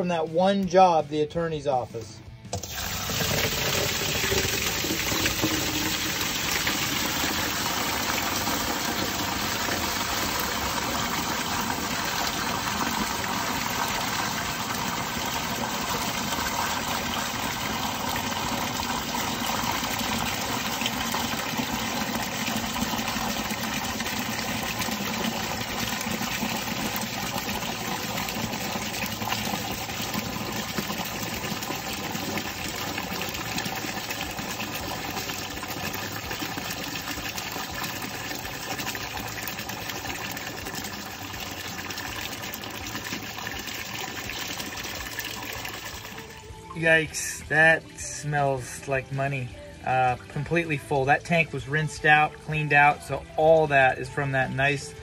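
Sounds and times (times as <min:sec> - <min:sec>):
water gushing from a tank: 0:02.5 - 0:55.0.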